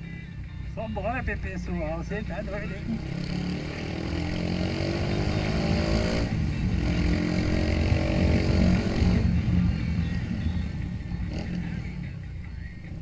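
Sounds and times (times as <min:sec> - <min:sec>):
motorcycle engine accelerating: 0:02.0 - 0:13.0.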